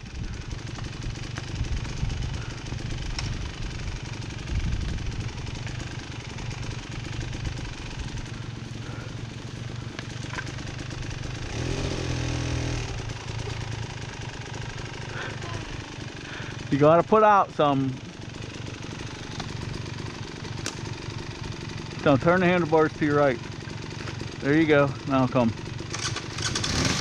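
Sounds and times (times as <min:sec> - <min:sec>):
dirt bike engine idling: 0:00.0 - 0:27.0.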